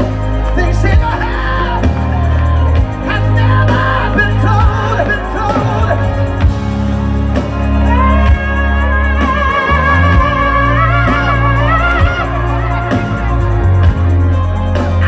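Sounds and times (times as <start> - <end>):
band with strong bass line: 0.0 - 15.0.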